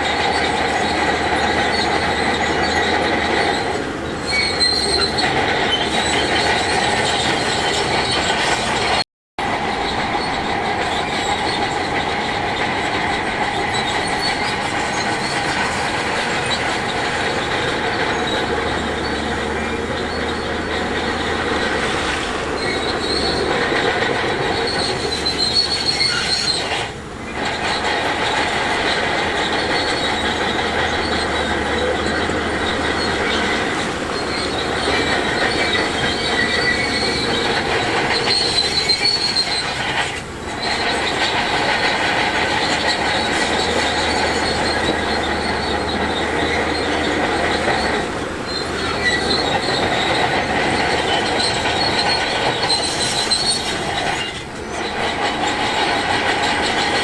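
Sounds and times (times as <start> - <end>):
crawler tracks squealing and clattering: 0.0 - 57.0
diesel earthmoving machinery: 0.0 - 57.0.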